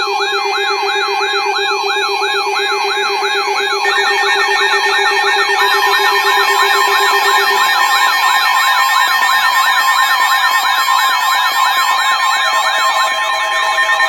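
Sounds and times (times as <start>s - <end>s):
electronic siren sweeping: 0.0s - 14.0s
steady high alarm tone: 0.0s - 14.0s.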